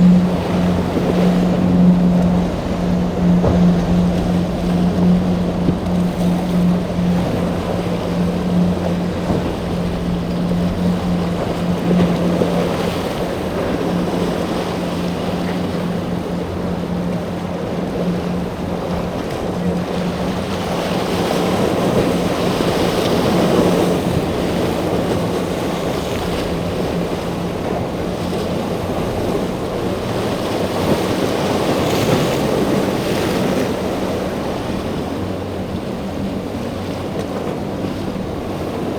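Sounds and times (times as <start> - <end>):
motorboat engine humming: 0.0 - 38.9
waves washing: 0.0 - 38.9
wind buffeting microphone: 0.0 - 38.9.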